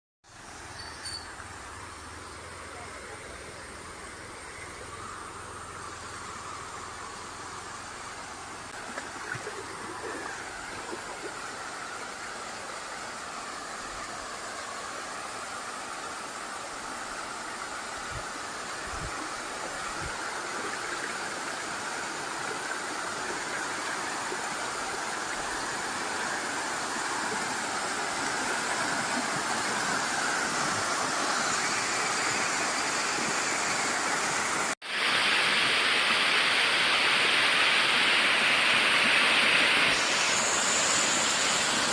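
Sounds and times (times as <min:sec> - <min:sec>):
waterfall rushing: 0:01.4 - 0:41.9.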